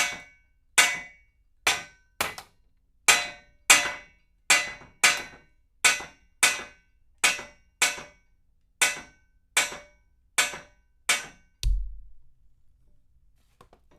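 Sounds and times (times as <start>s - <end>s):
hammer striking metal pipe: 0.0s - 2.4s, 3.1s - 11.9s.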